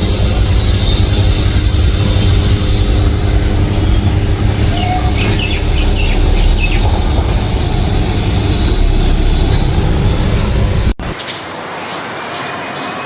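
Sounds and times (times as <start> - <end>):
loud low rumble: 0.0 - 11.2.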